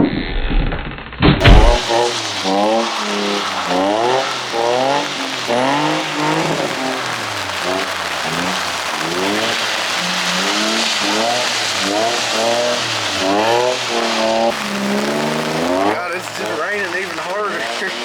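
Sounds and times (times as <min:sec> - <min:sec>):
car engine revving: 0:01.4 - 0:18.0
rain and wet tyres hissing: 0:01.4 - 0:18.0.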